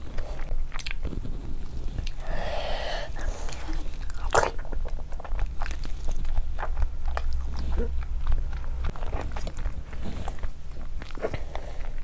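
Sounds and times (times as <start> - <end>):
wet chewing and mouth smacks: 0.0 - 2.2, 3.2 - 12.0
low steady hum: 0.0 - 12.0.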